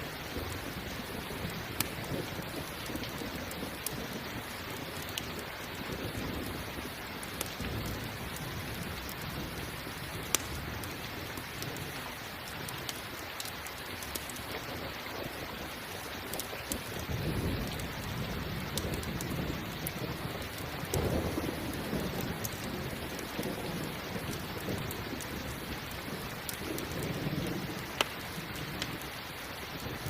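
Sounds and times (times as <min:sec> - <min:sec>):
campfire crackling and popping: 0:00.0 - 0:30.0
steady rain: 0:00.0 - 0:30.0
thunder rumbling: 0:00.0 - 0:30.0.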